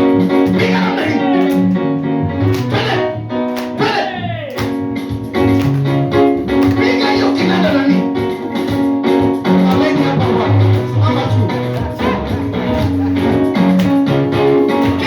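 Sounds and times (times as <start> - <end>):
keyboard and guitar worship music: 0.0 - 15.0.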